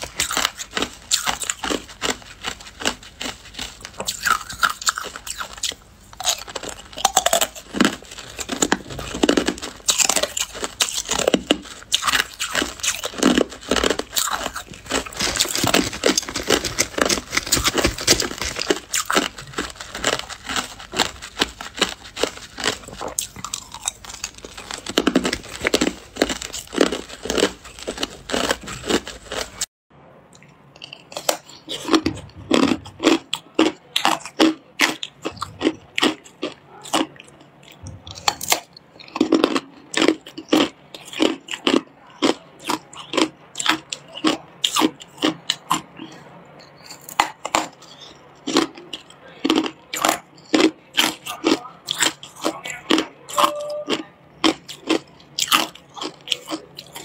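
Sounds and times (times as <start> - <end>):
crunching ice cubes: 0.0 - 29.7, 30.8 - 57.0.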